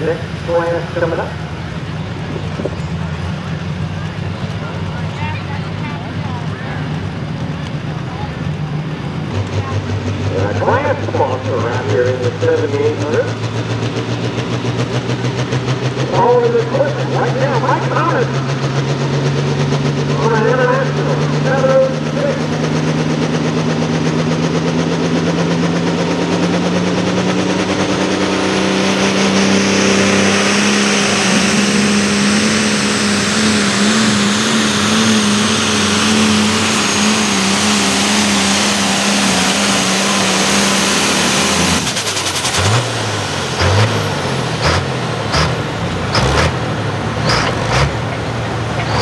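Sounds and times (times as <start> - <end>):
engine throttle blips: 0.0 - 49.0
tractor engine running flat out: 0.0 - 49.0.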